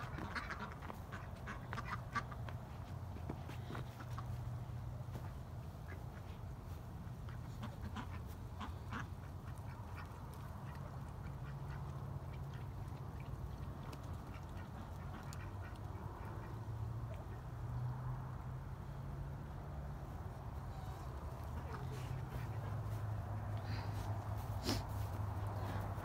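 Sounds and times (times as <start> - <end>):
ducks quacking: 0.0 - 18.4, 19.8 - 26.0.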